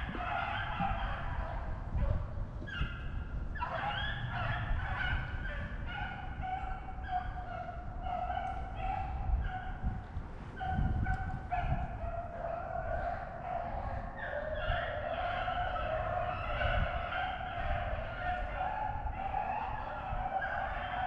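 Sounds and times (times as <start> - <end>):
hounds baying in chorus: 0.0 - 21.0.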